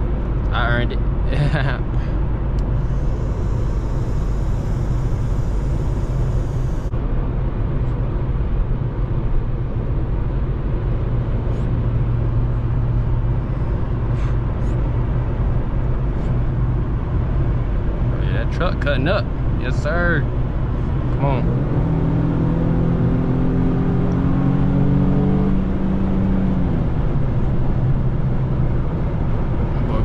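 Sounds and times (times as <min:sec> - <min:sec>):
car engine and road drone: 0:00.0 - 0:30.0.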